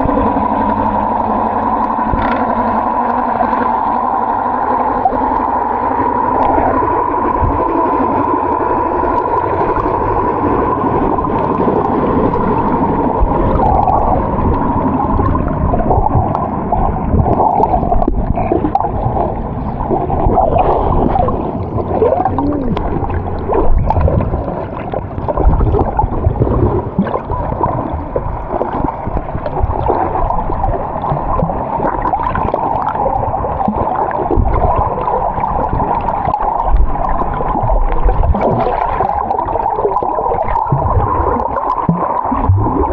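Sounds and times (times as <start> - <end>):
muffled water sloshing: 0.0 - 42.9.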